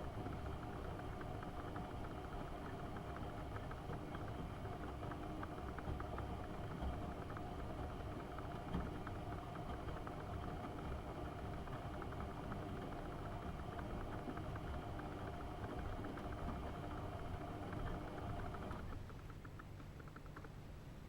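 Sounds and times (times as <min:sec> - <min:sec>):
washing machine running: 0:00.0 - 0:20.2.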